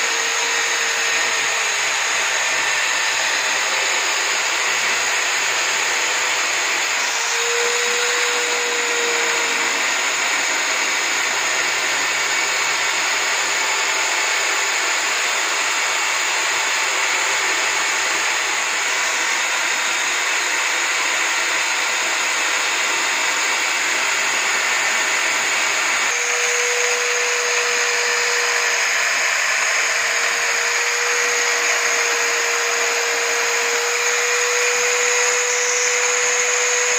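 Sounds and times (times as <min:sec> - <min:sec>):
electric drill motor running: 0:00.0 - 0:36.9.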